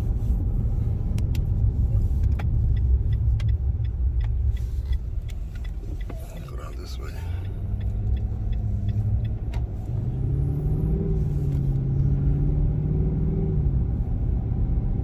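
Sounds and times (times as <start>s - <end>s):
car engine: 0.0s - 15.0s
road rumble: 0.0s - 15.0s.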